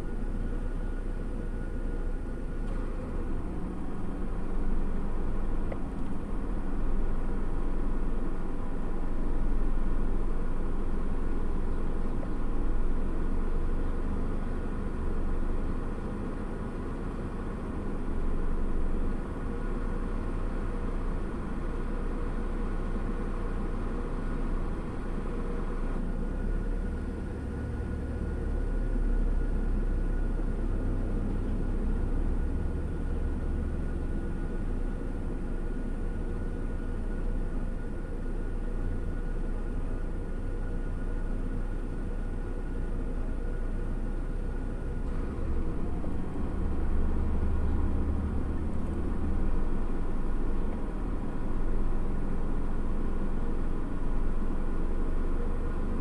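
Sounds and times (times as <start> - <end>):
mid-pitched hum: 0.0 - 56.0
vehicle engine idling: 0.0 - 56.0.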